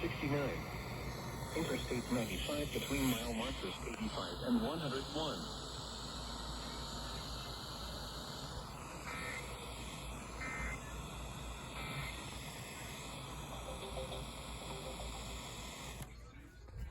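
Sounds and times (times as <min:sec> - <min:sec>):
warbling digital data bursts: 0:00.0 - 0:16.0
radio static hiss: 0:00.0 - 0:16.9.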